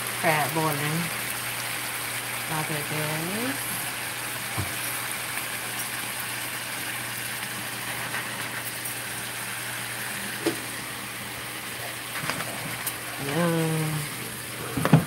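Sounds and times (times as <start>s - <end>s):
crabs sizzling in a frying pan: 0.0s - 15.0s.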